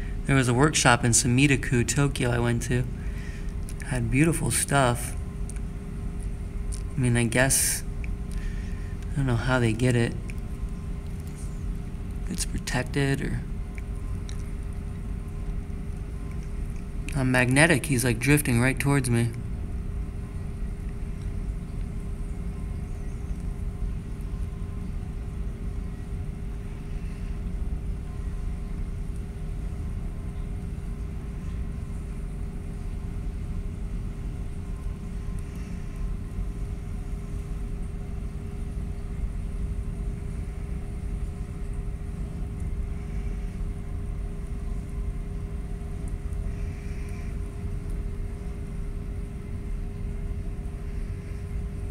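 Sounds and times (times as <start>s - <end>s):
constant hum: 0.0s - 51.9s
low rumble of machinery: 0.0s - 51.9s.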